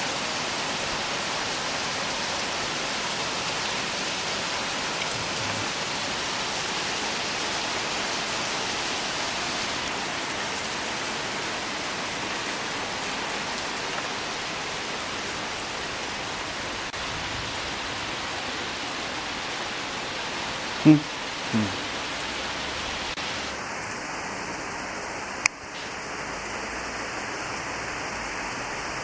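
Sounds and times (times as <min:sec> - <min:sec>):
torrential rain on foliage: 0:00.0 - 0:29.0.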